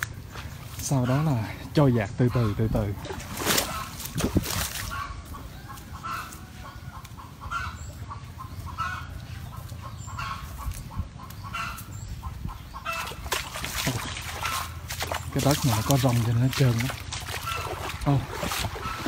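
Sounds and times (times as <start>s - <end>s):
chickens clucking: 0.8s - 19.0s.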